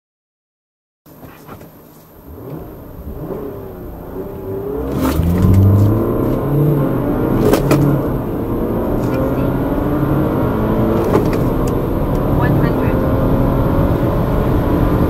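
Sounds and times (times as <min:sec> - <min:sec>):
car engine accelerating: 0:01.1 - 0:15.0.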